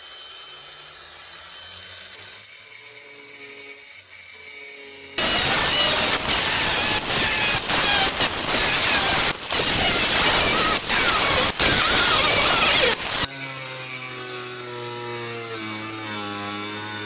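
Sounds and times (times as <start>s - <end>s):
power tool cutting sheet steel: 0.0s - 17.0s.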